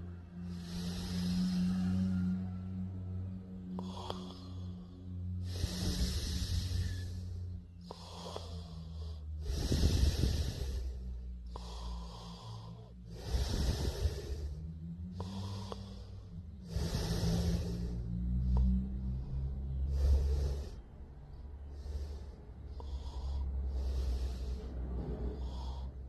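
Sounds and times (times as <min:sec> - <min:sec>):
person snoring: 0:00.0 - 0:26.0.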